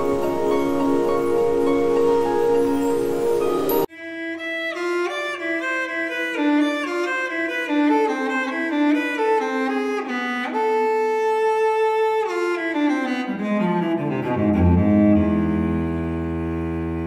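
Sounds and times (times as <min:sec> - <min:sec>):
bowed string music: 0:00.0 - 0:17.0.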